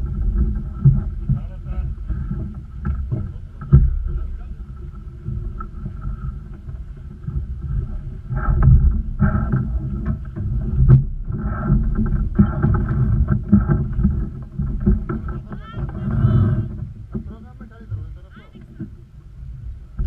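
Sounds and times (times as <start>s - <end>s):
water rushing along hull: 0.0s - 20.0s
waves thudding against boat: 0.0s - 20.0s
wind buffeting microphone: 0.0s - 20.0s.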